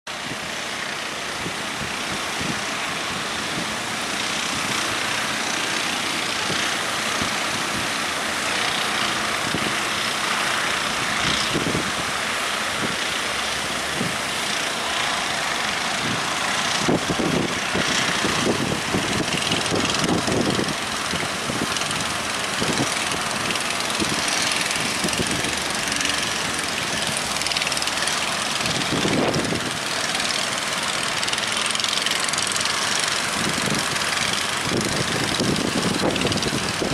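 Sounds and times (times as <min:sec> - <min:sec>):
heavy surf rushing: 0:00.1 - 0:36.9
strong wind: 0:00.1 - 0:36.9
low rumbles: 0:00.2 - 0:36.9.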